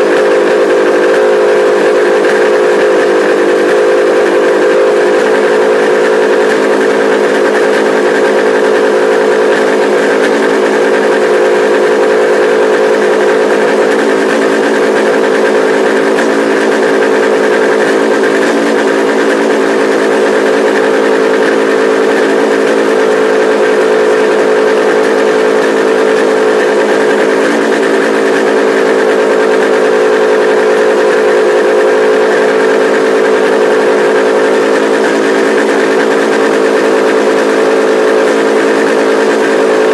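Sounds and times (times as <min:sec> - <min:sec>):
two-stroke engine running steadily: 0:00.0 - 0:39.9.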